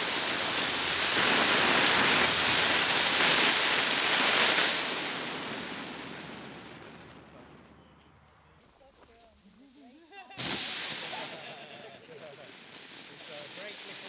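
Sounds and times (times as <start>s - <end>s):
firework fountain hissing: 0.0s - 7.5s, 8.7s - 14.0s.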